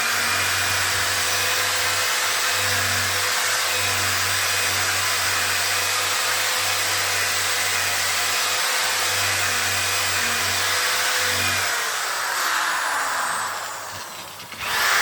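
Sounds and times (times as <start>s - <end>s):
power tool motor whirring: 0.0s - 15.0s.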